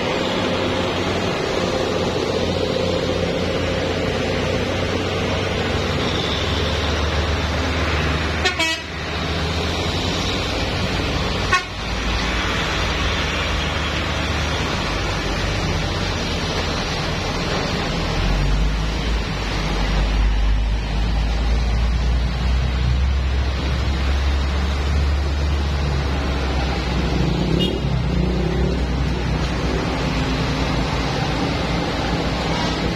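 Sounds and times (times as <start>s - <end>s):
truck engine and road noise: 0.0s - 32.9s.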